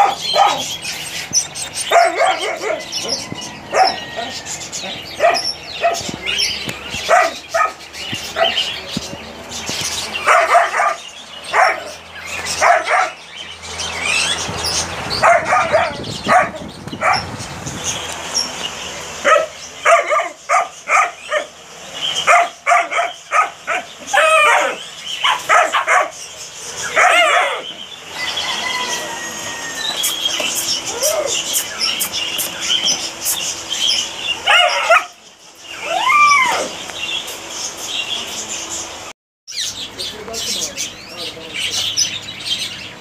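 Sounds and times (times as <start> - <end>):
dogs and puppies barking: 0.0 - 39.1.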